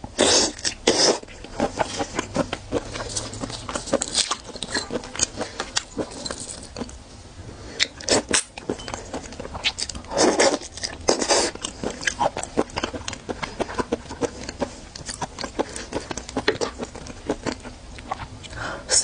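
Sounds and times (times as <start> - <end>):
biting and chewing shellfish: 0.0 - 7.0, 7.7 - 18.5.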